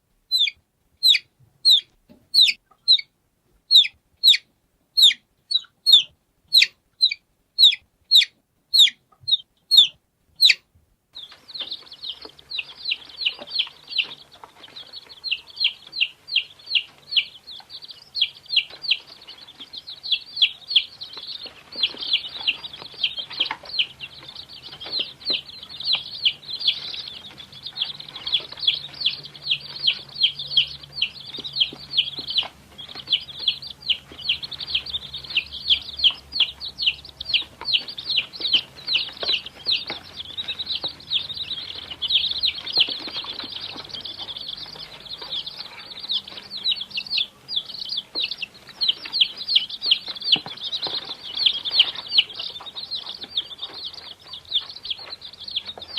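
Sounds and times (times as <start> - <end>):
baby chicks peeping: 0.0 - 55.9.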